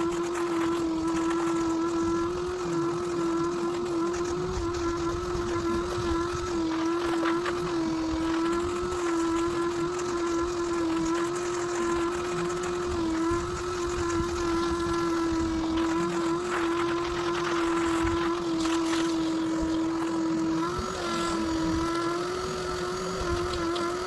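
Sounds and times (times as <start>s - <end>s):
vacuum motor whining: 0.0s - 24.0s.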